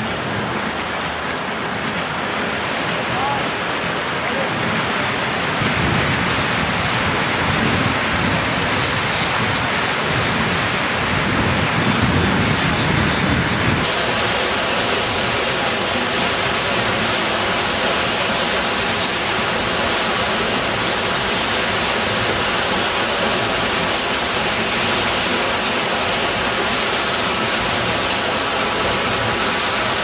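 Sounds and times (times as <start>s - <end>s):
breaking waves in a pool: 0.0s - 30.0s.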